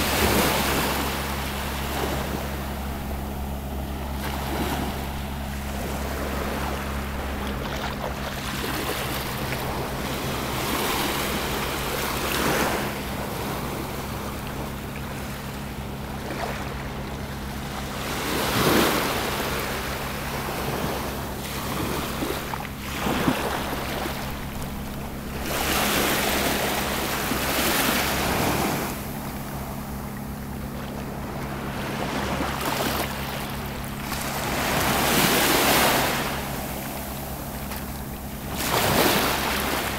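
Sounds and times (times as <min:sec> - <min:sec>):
surf breaking on shore: 0:00.0 - 0:15.4, 0:17.9 - 0:39.9.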